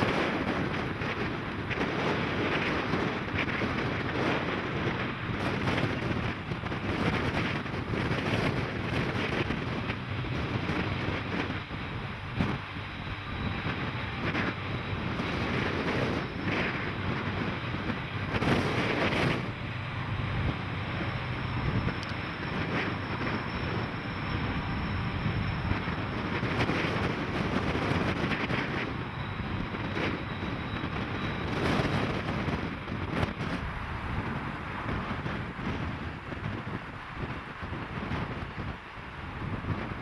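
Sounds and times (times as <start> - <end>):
train passing rumble: 0.0 - 40.0
wind buffeting microphone: 0.0 - 40.0.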